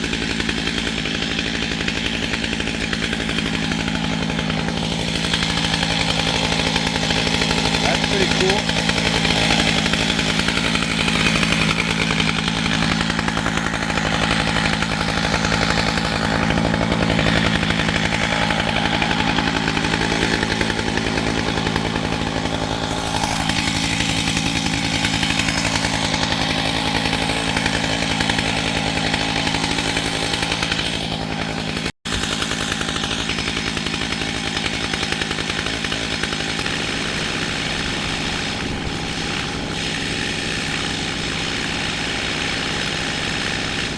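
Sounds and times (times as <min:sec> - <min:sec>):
chainsaw cutting log: 0:00.0 - 0:43.9.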